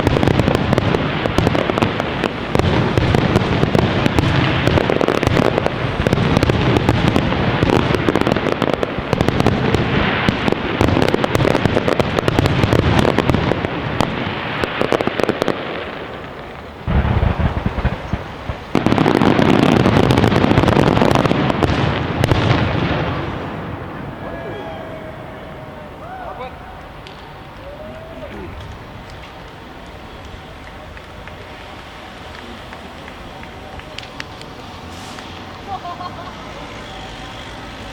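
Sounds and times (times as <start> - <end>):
fireworks bursting and crackling: 0.0 - 37.9.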